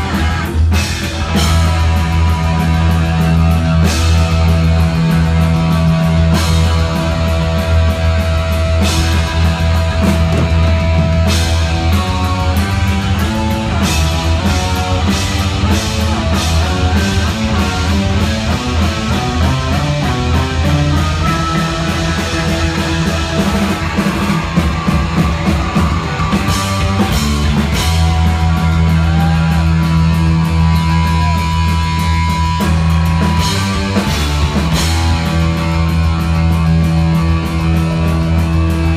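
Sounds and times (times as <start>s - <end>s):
drums: 0.0s - 38.9s
lead electric guitar: 0.0s - 38.9s.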